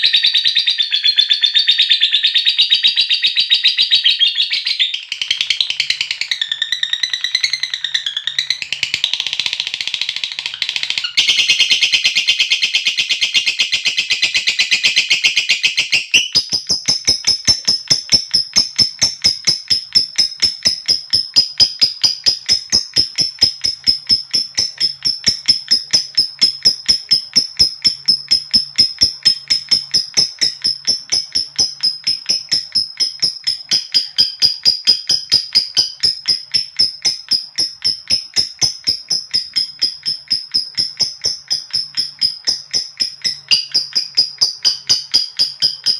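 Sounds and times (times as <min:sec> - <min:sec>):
lovebird chattering: 0:04.8 - 0:45.9.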